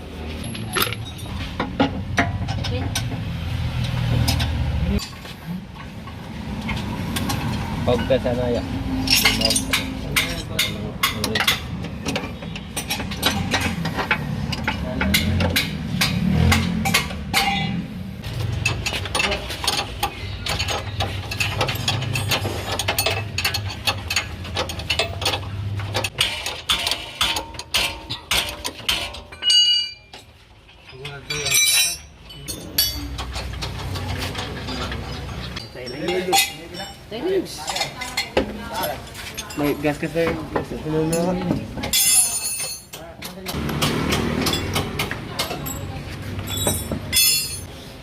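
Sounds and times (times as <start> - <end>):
hand tools clinking on metal: 0.3 - 3.1, 6.6 - 17.8, 18.4 - 40.4, 41.0 - 47.7.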